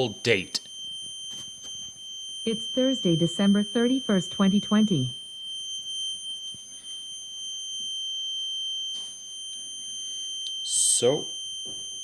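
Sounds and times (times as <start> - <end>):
smoke alarm steady high tone: 0.0 - 12.0.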